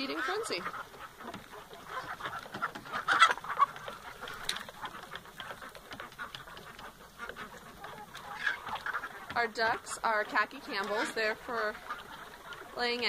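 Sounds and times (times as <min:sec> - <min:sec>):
ducks quacking: 0:00.0 - 0:13.0
hens clucking: 0:00.0 - 0:13.0.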